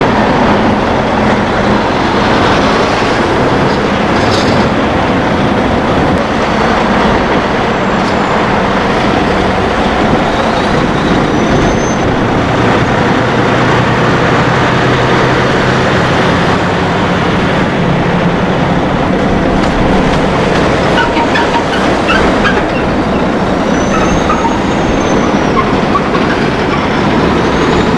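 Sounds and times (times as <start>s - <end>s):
heavy vehicles passing: 0.0s - 27.9s
low engine drone: 0.0s - 27.9s.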